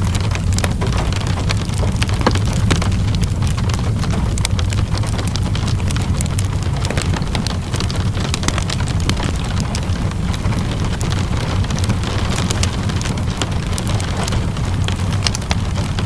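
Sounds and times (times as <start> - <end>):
constant low rumble: 0.0 - 16.0
rainfall: 0.0 - 16.0
wood fire crackling: 0.0 - 16.0.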